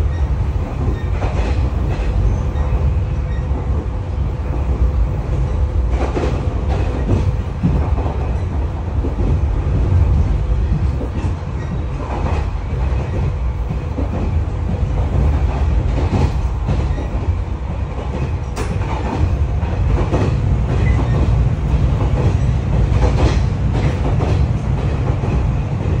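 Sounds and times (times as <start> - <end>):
train wheel and rail rumble: 0.0 - 26.0
clacks over rail joints: 0.6 - 3.9, 5.9 - 26.0.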